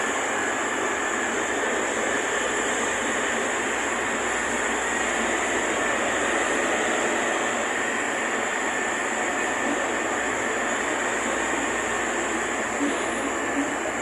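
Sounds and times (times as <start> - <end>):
metro car rolling noise: 0.0 - 14.0.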